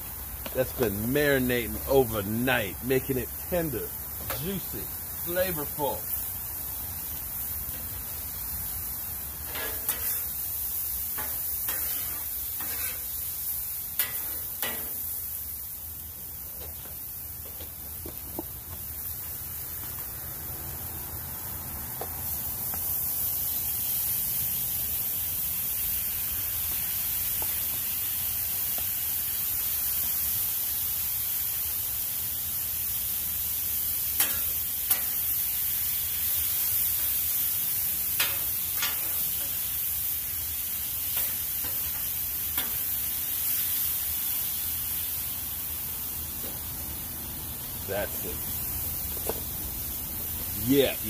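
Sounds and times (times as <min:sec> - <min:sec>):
steak sizzling on a griddle: 0:00.0 - 0:51.0.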